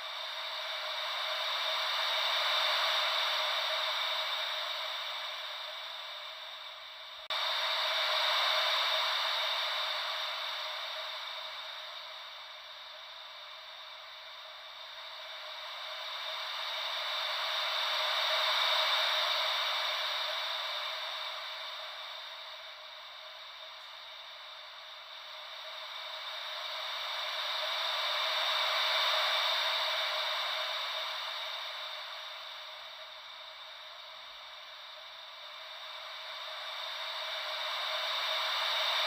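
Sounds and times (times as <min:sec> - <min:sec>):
ocean wave white noise: 0:00.0 - 0:39.0.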